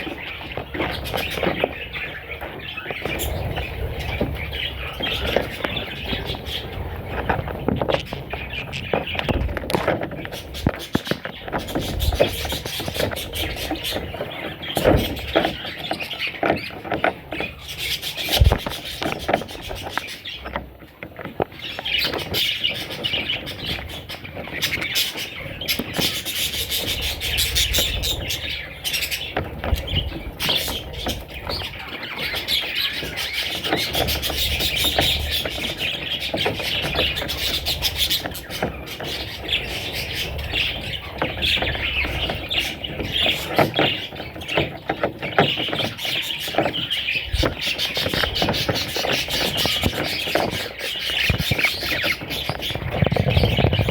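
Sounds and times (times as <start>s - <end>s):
bird chicks chirping and squeaking: 0.0s - 53.9s.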